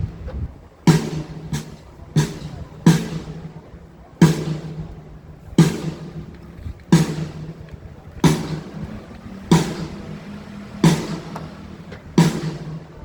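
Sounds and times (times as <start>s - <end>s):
drum hits with low ring: 0.9s - 13.0s.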